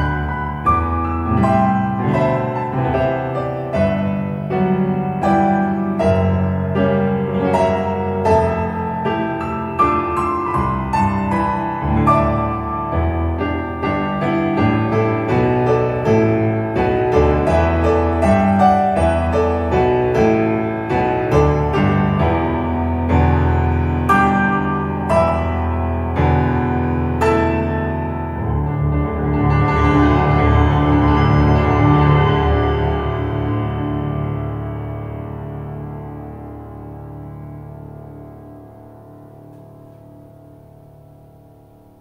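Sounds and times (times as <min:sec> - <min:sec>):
solo piano music in room: 0:00.0 - 0:42.0.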